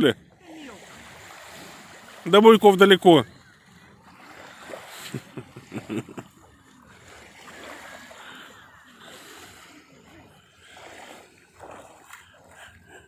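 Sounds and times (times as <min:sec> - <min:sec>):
sea water sloshing and splashing: 0:00.0 - 0:13.0.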